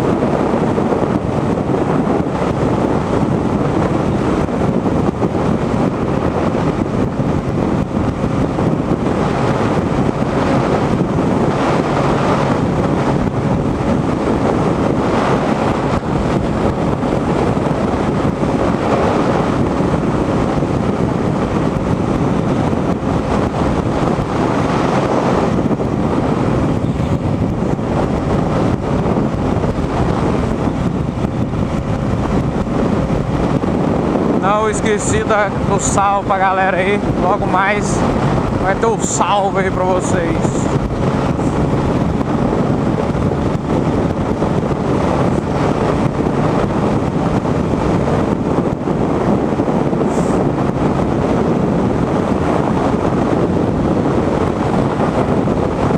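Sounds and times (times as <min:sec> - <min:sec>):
motorcycle cruising: 0:00.0 - 0:55.9
wind rushing across microphone: 0:00.0 - 0:55.9.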